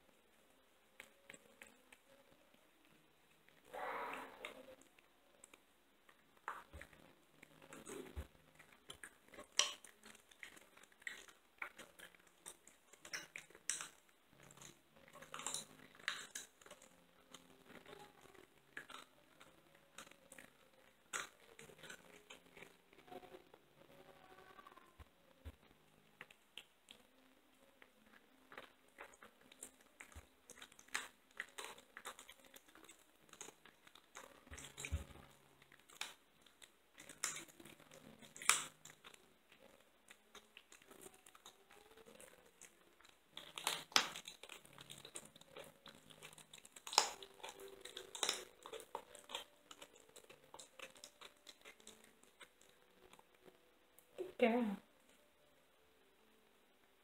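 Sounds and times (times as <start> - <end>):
kitten crunching chicken bone: 0.1 - 54.2.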